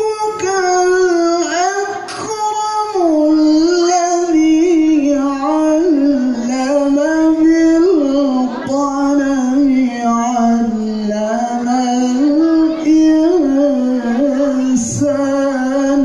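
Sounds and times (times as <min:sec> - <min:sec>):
person reciting melodically: 0:00.0 - 0:16.0.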